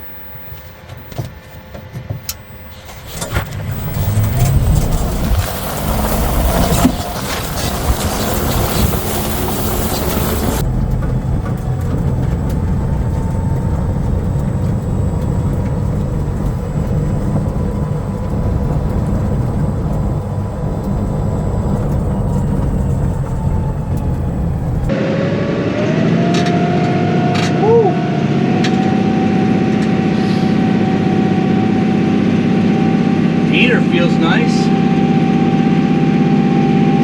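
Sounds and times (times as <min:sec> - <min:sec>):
vehicle engine running: 0:00.0 - 0:37.0
wavering whine: 0:00.0 - 0:37.0.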